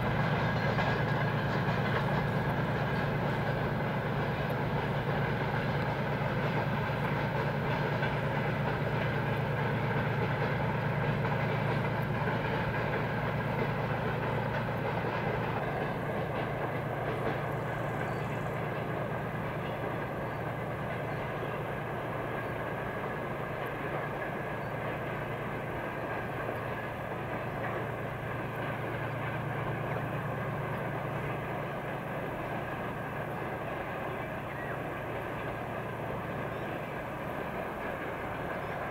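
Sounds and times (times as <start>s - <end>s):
diesel locomotive engine drone: 0.0s - 38.9s
train wagons rumbling on rails: 0.0s - 38.9s.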